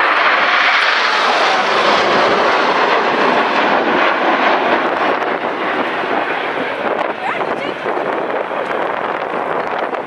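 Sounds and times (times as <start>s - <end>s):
jets flying overhead: 0.0s - 10.0s.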